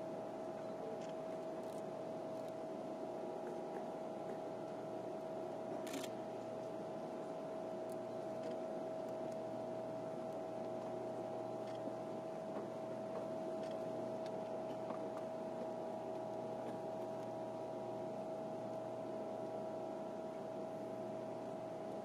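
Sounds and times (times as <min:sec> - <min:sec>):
electrical hum of trains: 0:00.0 - 0:22.0.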